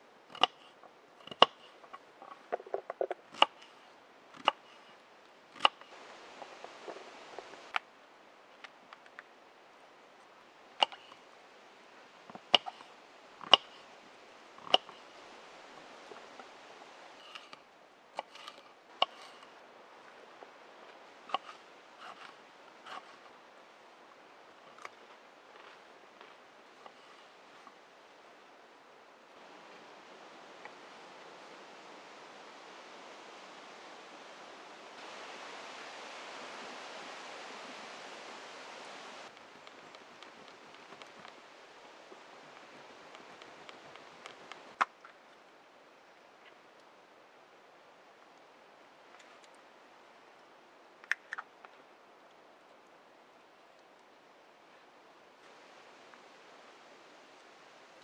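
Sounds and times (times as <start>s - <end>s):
rushing woodland ambience: 0.0s - 58.0s.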